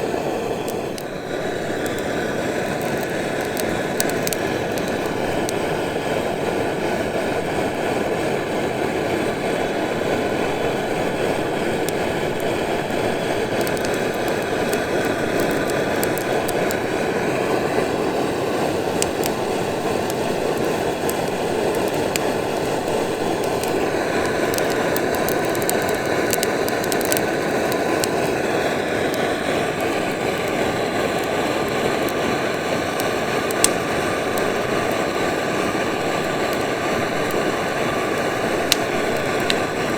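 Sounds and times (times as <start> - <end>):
crackling wood: 0.0 - 8.5, 9.2 - 39.9
gas torch roaring: 0.0 - 39.9.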